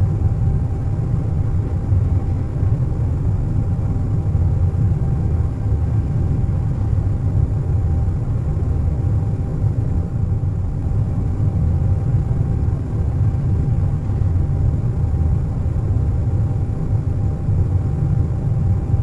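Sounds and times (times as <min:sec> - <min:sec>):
airliner cabin rumble: 0:00.0 - 0:19.0
faint constant whine: 0:00.0 - 0:19.0.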